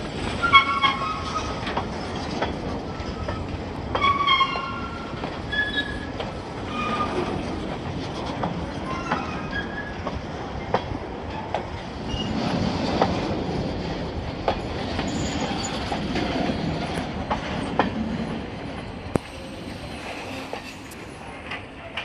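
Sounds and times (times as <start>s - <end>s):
freight train wheels rumbling: 0.0s - 22.0s
wheels clacking at rail joints: 0.0s - 22.0s.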